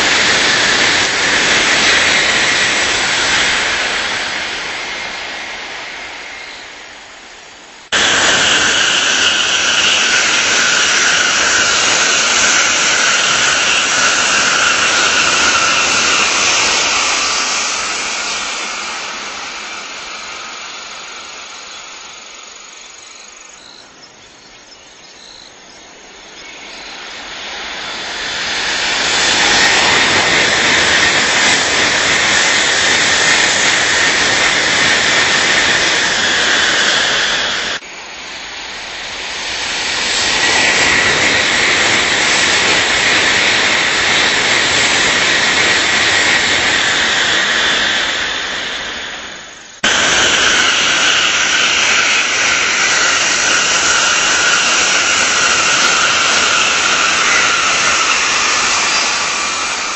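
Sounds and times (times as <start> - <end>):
high-speed trains passing: 0.0 - 59.9.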